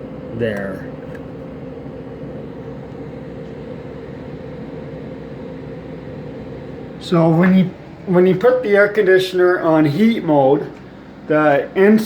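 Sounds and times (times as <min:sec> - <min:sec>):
blower fan humming: 0:00.0 - 0:12.0.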